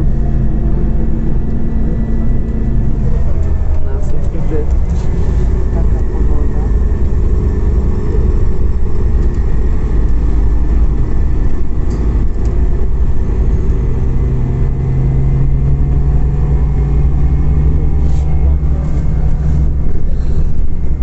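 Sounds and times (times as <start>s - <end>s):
bus engine and road rumble: 0.0s - 21.0s
steady low hum: 0.0s - 21.0s.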